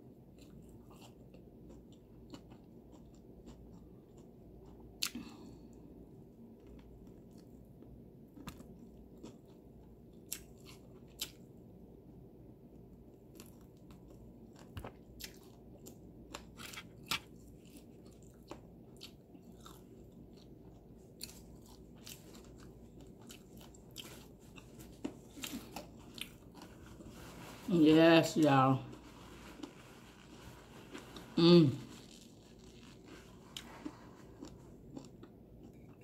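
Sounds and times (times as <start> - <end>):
chewing fried chicken: 0.0 - 11.7, 13.0 - 36.0.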